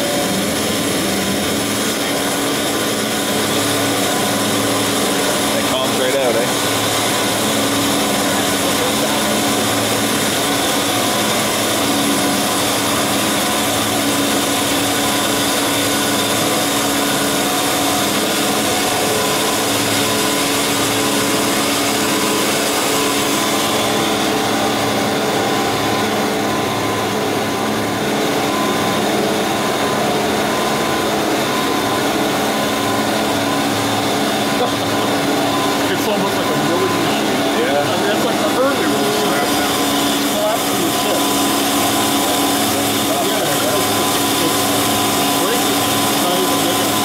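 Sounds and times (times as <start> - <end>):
bandsaw cutting steel: 0.0 - 47.0
saw drive hum: 0.0 - 47.0.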